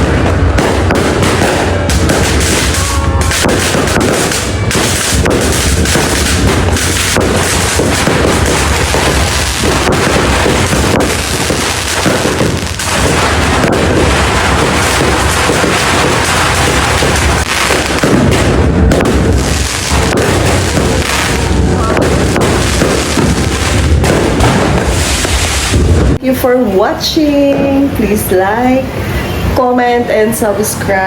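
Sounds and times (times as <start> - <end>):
fireworks and firecrackers: 0.0 - 31.0.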